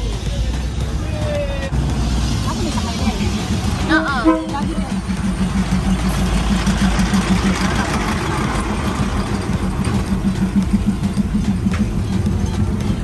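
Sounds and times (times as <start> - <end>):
diesel train engine throbbing: 0.0 - 13.0.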